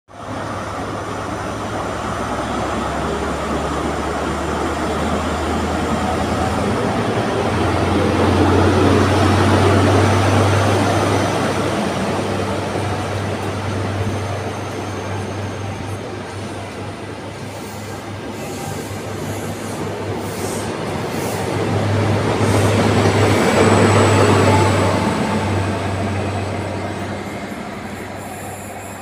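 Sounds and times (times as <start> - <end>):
diesel locomotive engine drone: 0.1 - 29.0
train coaches rolling on rails: 0.2 - 29.0.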